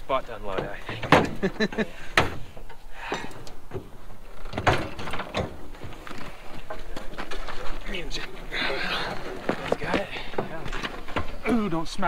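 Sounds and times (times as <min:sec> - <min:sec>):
sharp knocks and clunks: 0:00.2 - 0:11.8.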